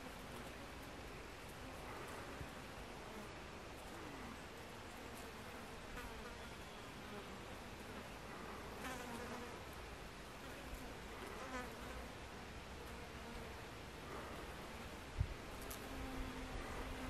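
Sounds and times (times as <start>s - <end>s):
hornet wings buzzing: 0.0s - 17.0s.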